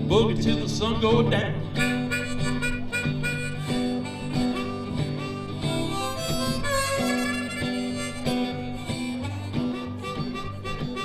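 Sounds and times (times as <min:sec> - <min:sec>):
live blues band playing: 0:00.0 - 0:11.0
harmonica: 0:01.6 - 0:11.0.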